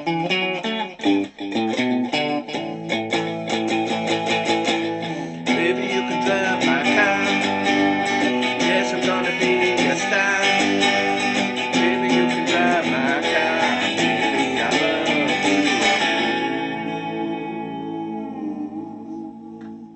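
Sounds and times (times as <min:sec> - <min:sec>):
guitar strummed and plucked: 0:00.0 - 0:19.9.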